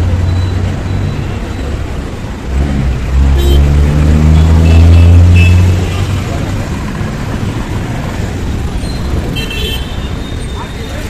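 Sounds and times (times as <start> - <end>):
truck engine revving: 0.0 - 9.3
street traffic: 0.0 - 11.0.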